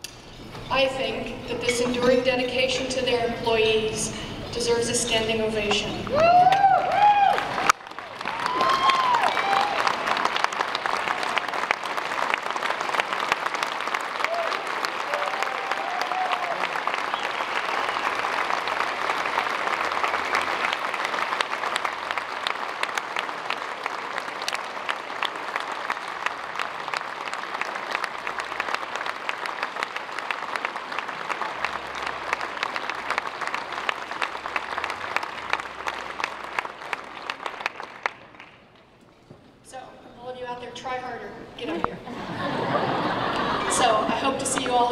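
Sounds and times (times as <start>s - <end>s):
large crowd applauding: 6.1s - 38.9s, 41.8s - 44.9s.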